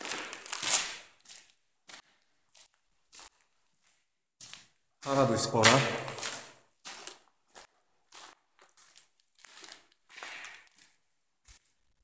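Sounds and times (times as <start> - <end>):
footsteps crunching on debris: 0.0 - 12.0.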